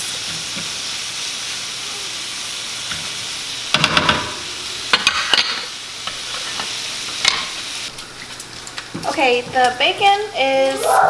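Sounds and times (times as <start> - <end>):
bacon sizzling in skillet: 0.0 - 11.0.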